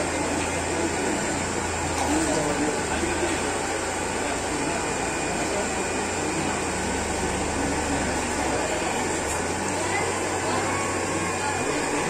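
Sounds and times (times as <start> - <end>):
aeration blower whirring: 0.0 - 12.0
crowd chattering: 0.0 - 12.0.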